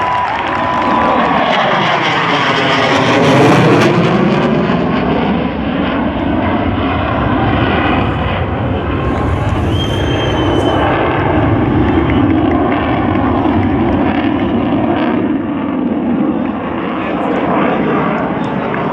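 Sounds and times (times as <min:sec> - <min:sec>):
jet engine passing: 0:00.0 - 0:18.9.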